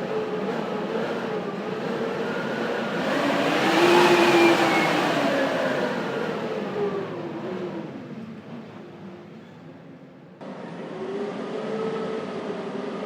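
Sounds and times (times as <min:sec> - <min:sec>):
blizzard wind whistling: 0:00.0 - 0:13.0.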